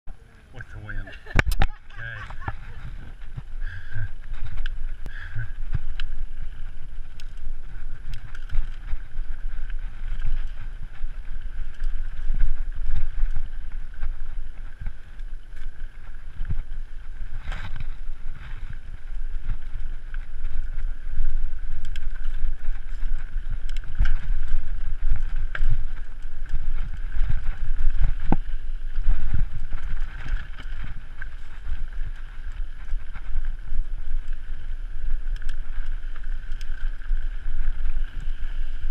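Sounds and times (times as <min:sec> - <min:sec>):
wind on microphone: 0:00.1 - 0:38.9
tyres over dirt: 0:00.4 - 0:38.9
bike rattling and knocking: 0:01.2 - 0:38.9.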